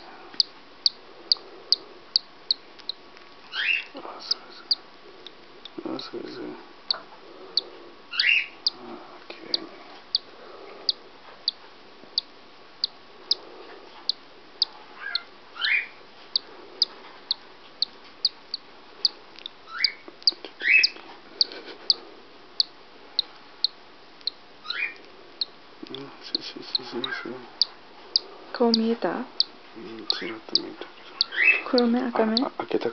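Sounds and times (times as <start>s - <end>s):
chick peeping: 0.0s - 6.3s, 6.9s - 22.0s, 22.6s - 32.6s.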